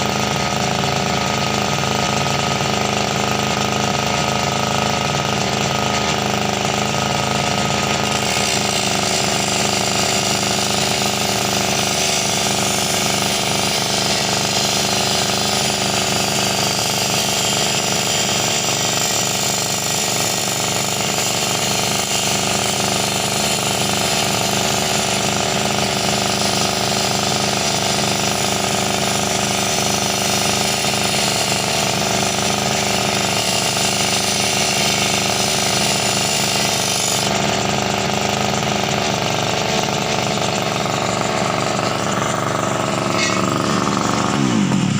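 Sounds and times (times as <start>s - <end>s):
high-speed motor buzzing: 0.0s - 44.9s
power tool grinding: 0.0s - 44.9s.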